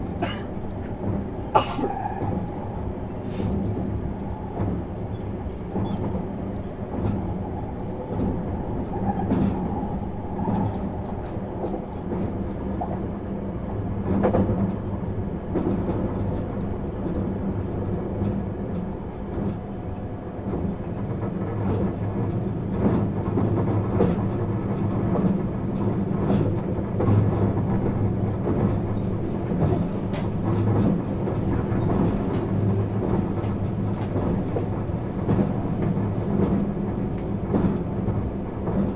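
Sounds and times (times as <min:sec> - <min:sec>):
train running gear rumble: 0:00.0 - 0:38.9.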